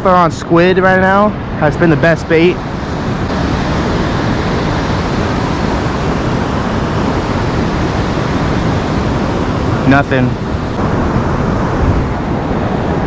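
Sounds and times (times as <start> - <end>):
ocean surf breaking: 0.0 - 13.0
wind: 0.0 - 13.0.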